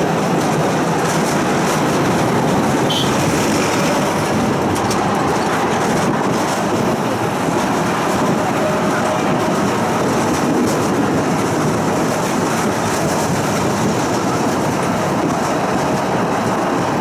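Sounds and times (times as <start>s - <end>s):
tram wheels on rails: 0.0s - 17.0s.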